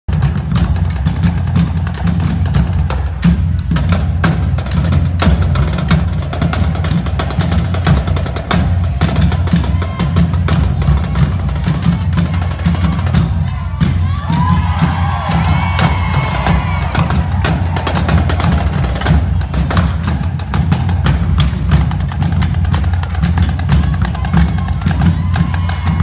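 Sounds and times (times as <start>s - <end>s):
marching bass drums: 0.1s - 26.0s
snare drum rolls: 0.1s - 26.0s.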